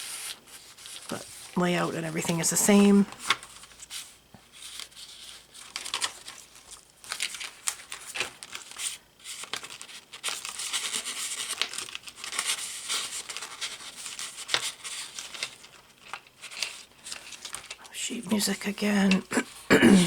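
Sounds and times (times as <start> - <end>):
paper pages rustling: 0.0 - 19.2.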